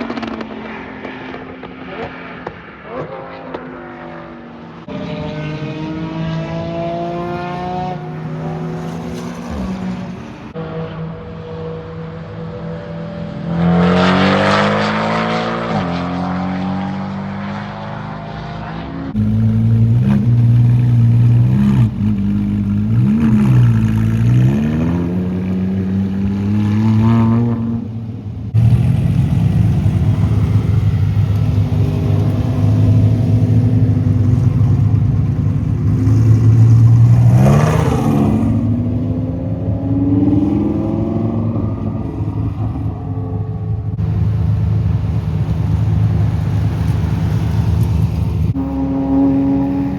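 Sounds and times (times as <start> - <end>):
race car engines passing by: 0.0 - 49.9.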